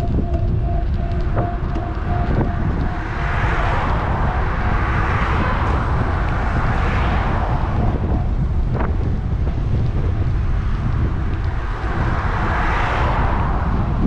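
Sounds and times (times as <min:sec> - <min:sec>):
motor vehicle passing: 0:00.0 - 0:14.0
wind rumble on microphone: 0:00.0 - 0:14.0.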